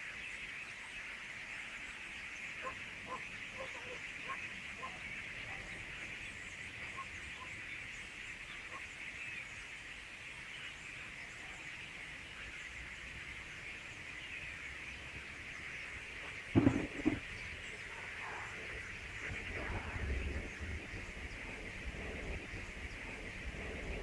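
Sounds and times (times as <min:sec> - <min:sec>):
starling flock chattering: 0:02.4 - 0:09.6, 0:10.5 - 0:24.0.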